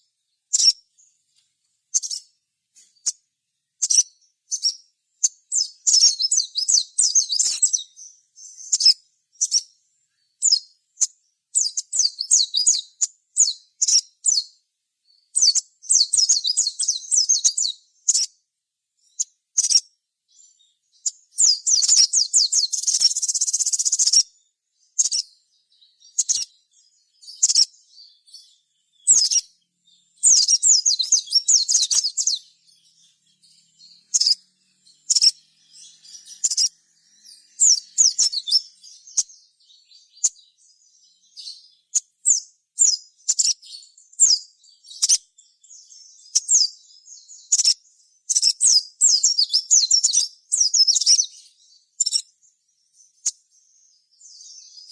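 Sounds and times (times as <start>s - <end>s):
bird twittering: 0.0s - 1.1s, 1.9s - 3.2s, 3.8s - 18.4s, 19.0s - 52.4s.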